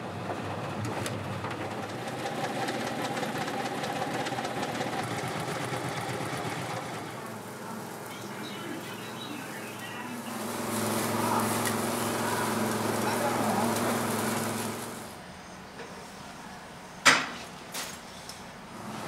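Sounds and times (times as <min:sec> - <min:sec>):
noodle machine humming and rattling: 0:00.0 - 0:15.2, 0:17.8 - 0:19.0.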